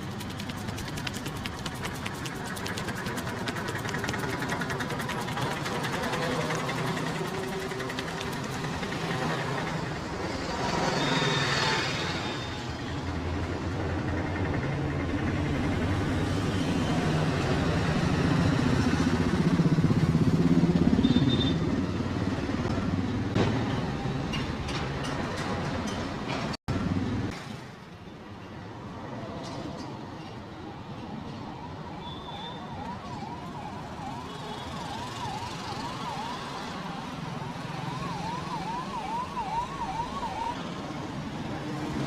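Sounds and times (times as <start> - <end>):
motorcycle and vehicle engines passing: 0.0 - 27.8, 30.9 - 42.0.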